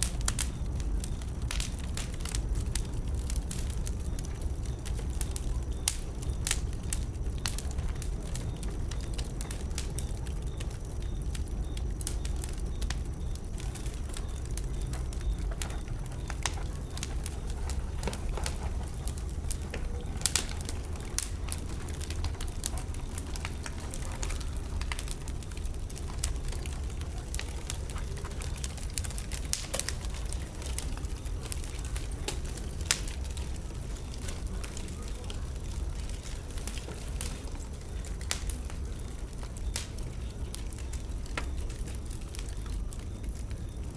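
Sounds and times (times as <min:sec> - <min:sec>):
bonfire crackling and popping: 0:00.0 - 0:43.9
fire low rumble: 0:00.0 - 0:43.9.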